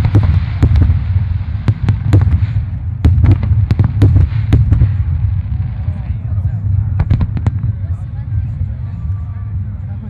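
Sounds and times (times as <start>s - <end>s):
fireworks bangs: 0.0s - 8.6s
deep low rumble of booms: 0.0s - 9.7s.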